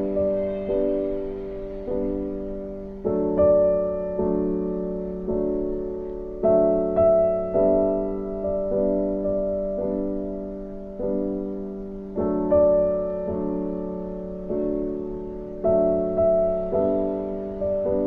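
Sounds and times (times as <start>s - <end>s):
slow soft piano music: 0.0s - 18.0s.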